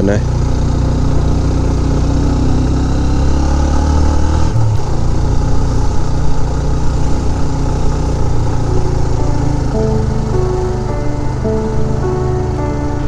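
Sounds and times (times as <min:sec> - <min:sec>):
motorcycle engine under load: 0:00.0 - 0:13.0.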